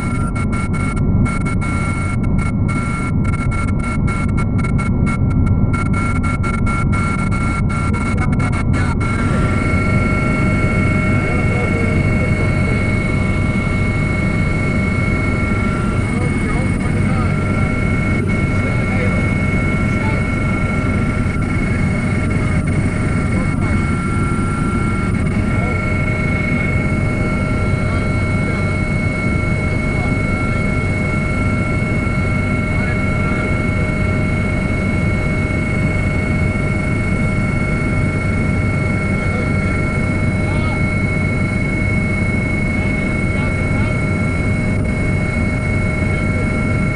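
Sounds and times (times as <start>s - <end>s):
helicopter rotor and engine rumble: 0.0s - 46.9s
high turbine whine: 0.0s - 46.9s.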